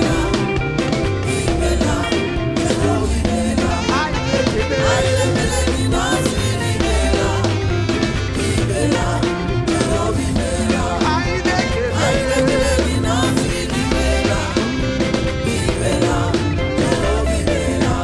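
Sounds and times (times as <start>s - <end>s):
bass: 0.0s - 18.0s
drum kit: 0.0s - 18.0s
gospel band music: 0.0s - 18.0s
voices singing: 0.0s - 18.0s.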